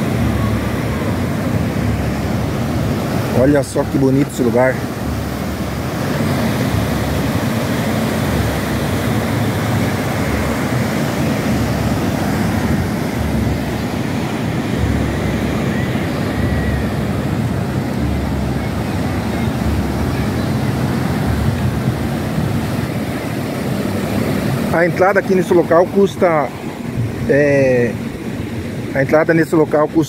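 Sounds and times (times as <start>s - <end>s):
wind buffeting microphone: 0.0s - 29.0s
ocean surf breaking: 0.0s - 30.0s.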